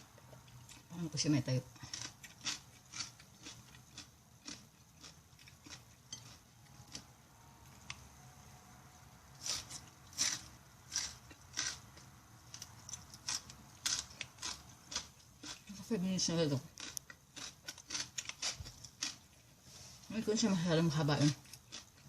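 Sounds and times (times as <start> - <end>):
food being chewed: 0.0 - 0.9, 1.7 - 8.1, 9.3 - 15.8, 16.7 - 19.9, 21.1 - 22.0.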